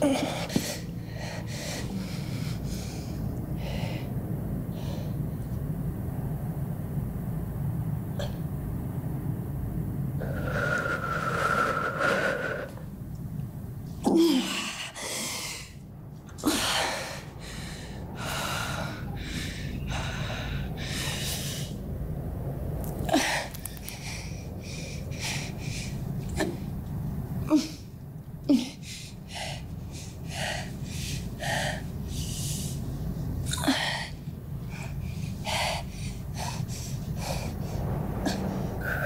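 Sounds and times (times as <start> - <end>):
low rumbling drone: 0.0 - 39.0.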